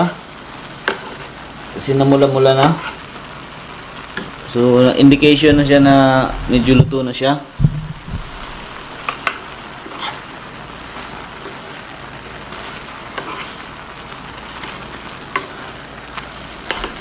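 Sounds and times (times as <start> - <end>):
shrimp sizzling in a pan: 0.0 - 17.0.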